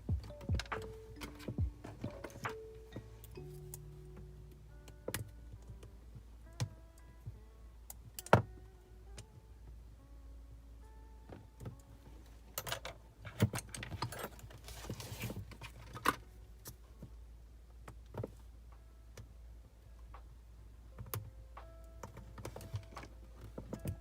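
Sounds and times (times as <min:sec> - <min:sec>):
faint steady notes: 0:00.0 - 0:14.4, 0:15.8 - 0:24.0.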